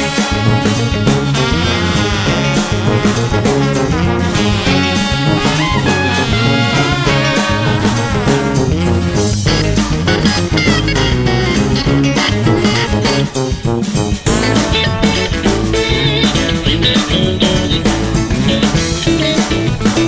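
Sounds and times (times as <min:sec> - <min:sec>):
upbeat swing tune with brass: 0:00.0 - 0:20.0.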